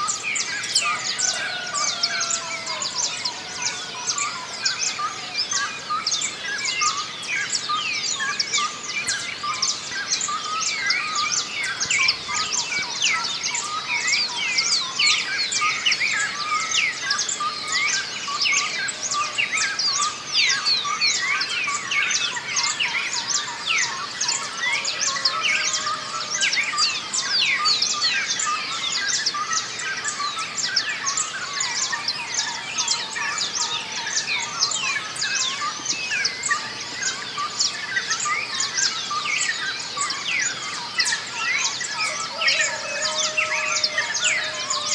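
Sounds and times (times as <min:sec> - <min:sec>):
birds singing in dawn chorus: 0:00.0 - 0:44.9.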